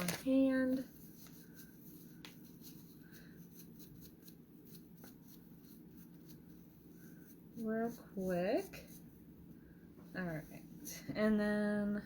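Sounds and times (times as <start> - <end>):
faint rubbing on skin: 0.0 - 11.4.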